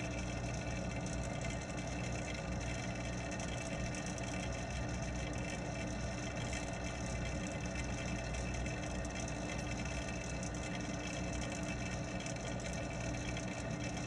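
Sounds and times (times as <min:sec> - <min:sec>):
water pump electric hum: 0:00.0 - 0:14.0.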